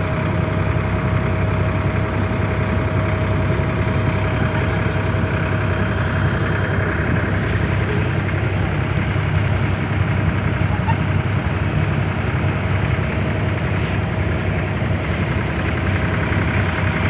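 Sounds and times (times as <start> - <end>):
boat diesel engine running: 0.0 - 17.0.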